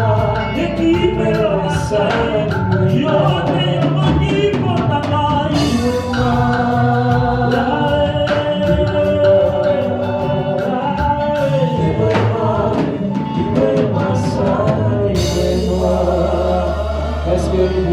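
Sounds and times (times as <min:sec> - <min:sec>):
drum kit beat: 0:00.0 - 0:17.9
gospel singing with band: 0:00.0 - 0:17.9.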